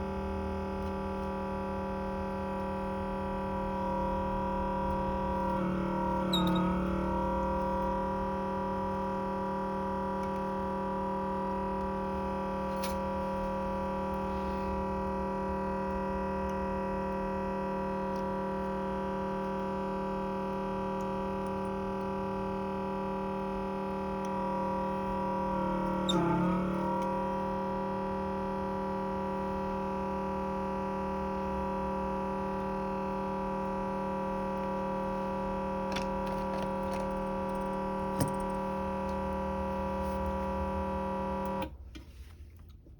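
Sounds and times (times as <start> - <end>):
electric motor hum: 0.0 - 41.7.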